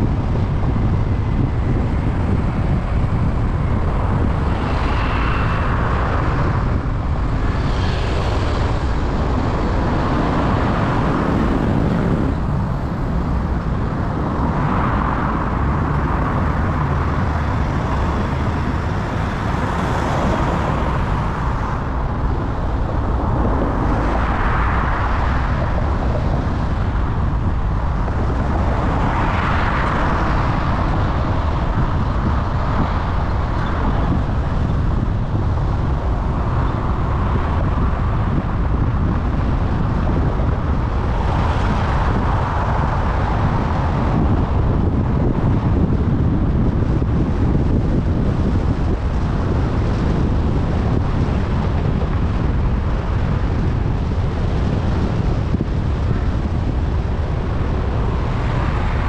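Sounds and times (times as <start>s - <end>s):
car road and engine rumble: 0.0s - 59.0s
traffic noise: 0.0s - 59.0s.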